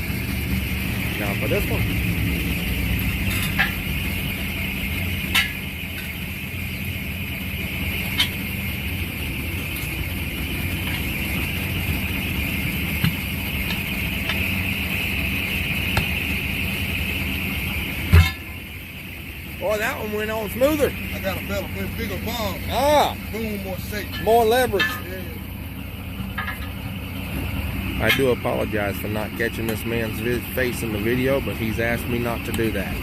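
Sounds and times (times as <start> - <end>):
engine idling hum: 0.0 - 33.0.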